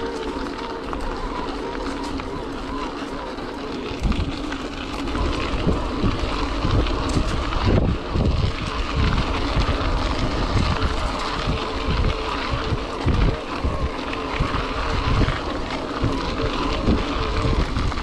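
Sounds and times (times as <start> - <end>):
electric bike riding on trail: 0.0 - 18.0
wind buffeting microphone: 0.0 - 18.0.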